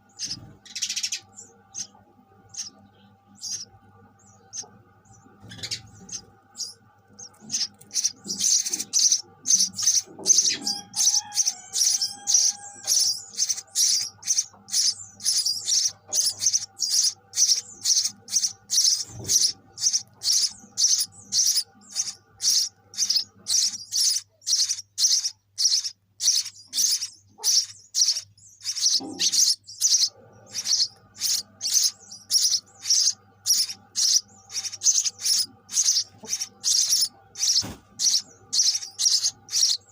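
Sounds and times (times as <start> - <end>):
faint steady hum: 0.0 - 39.9
sparrows cheeping: 0.0 - 39.9.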